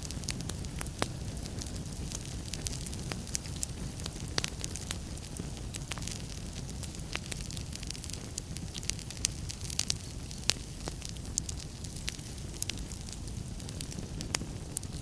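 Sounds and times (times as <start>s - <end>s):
flames rumbling: 0.0s - 15.0s
logs crackling and popping: 0.0s - 15.0s.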